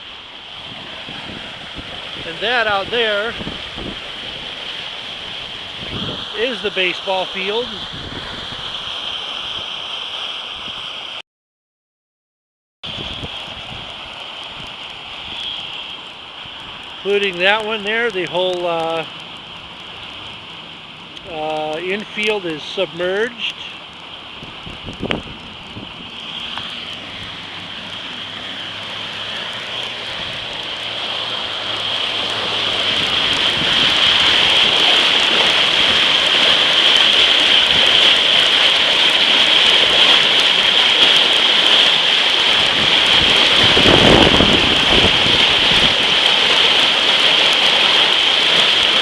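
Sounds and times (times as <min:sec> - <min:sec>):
floodwater rushing: 0:00.0 - 0:11.2, 0:12.8 - 0:49.0.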